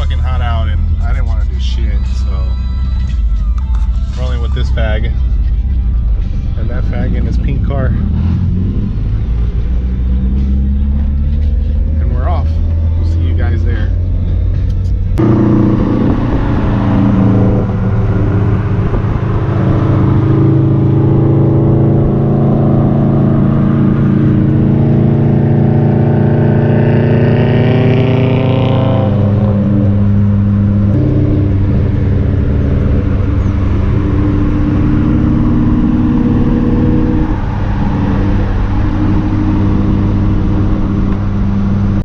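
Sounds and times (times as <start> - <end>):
car engine accelerating: 0.0 - 42.0.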